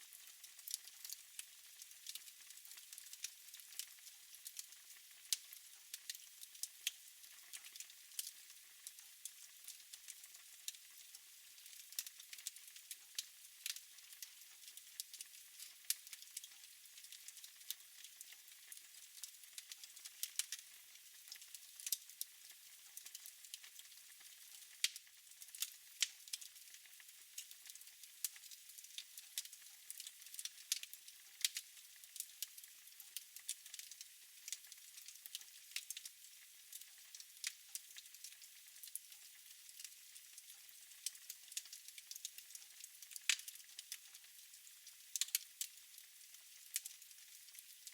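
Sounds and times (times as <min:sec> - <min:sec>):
fire crackling in a fireplace: 0:00.0 - 0:47.9.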